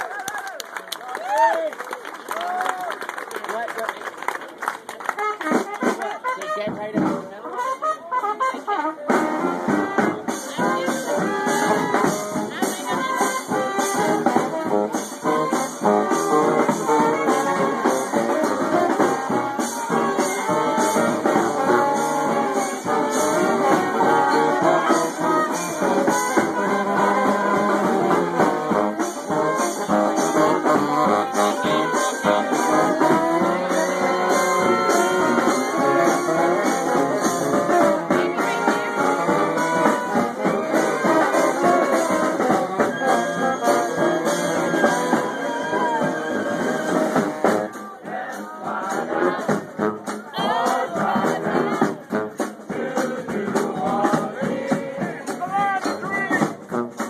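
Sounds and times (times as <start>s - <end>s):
brass band playing: 5.0s - 57.0s
drums and cymbals beat: 6.6s - 7.4s, 8.2s - 57.0s.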